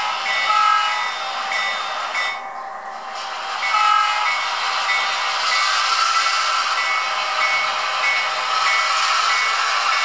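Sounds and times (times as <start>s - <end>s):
diesel locomotive moving slowly: 0.0s - 10.0s.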